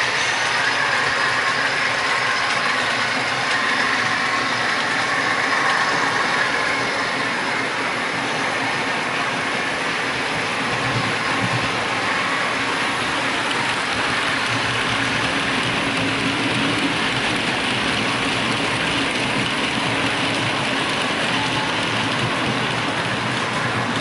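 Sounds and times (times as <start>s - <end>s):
model train wheels clicking on rails: 0.0s - 24.0s.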